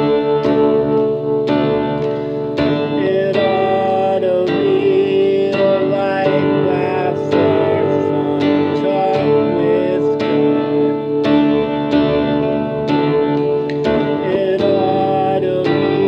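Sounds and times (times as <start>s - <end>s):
guitar chords and melody: 0.0s - 16.0s.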